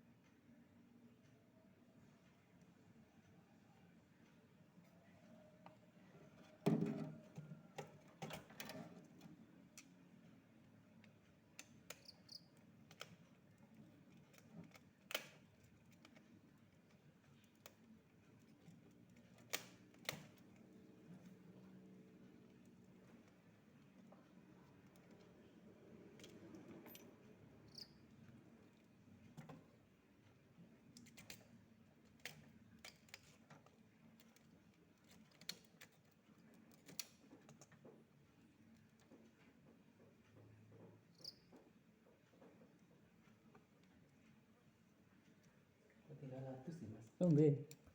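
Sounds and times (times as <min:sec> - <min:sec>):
faint clicks and taps: 0:00.1 - 0:46.1.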